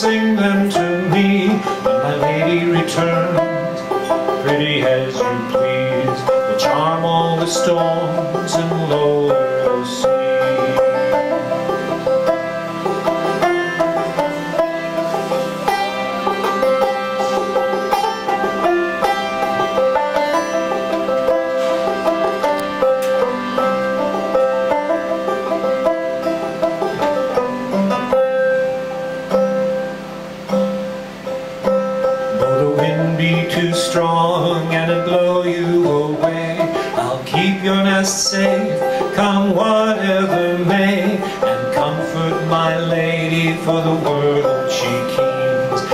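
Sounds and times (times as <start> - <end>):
banjo picking a melody: 0.0 - 45.9
harmonium chords: 0.0 - 45.9.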